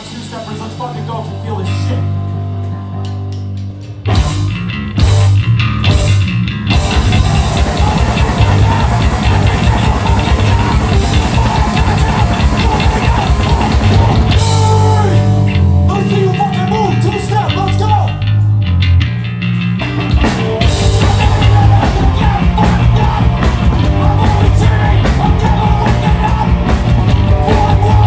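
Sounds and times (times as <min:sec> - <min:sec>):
punk band playing loud: 0:00.0 - 0:28.0.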